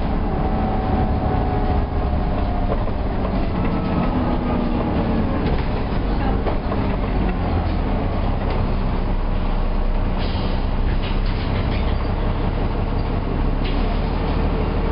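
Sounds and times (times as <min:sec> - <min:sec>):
bus engine drone: 0:00.0 - 0:14.9.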